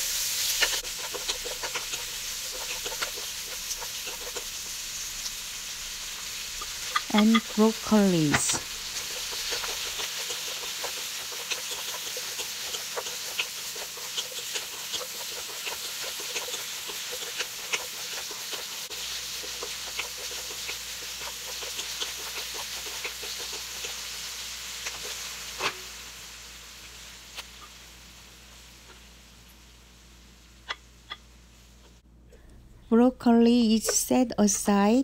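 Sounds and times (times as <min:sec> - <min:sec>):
food sizzling in butter: 0:00.0 - 0:32.0.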